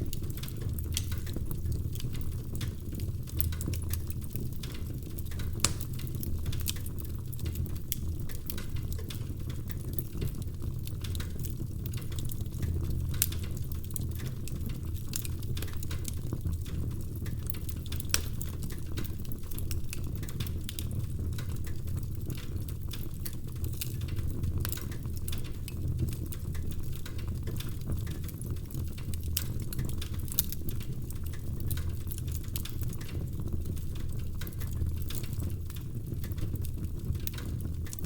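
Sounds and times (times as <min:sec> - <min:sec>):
logs crackling and popping: 0:00.0 - 0:38.0
low rumble of flames: 0:00.0 - 0:38.0.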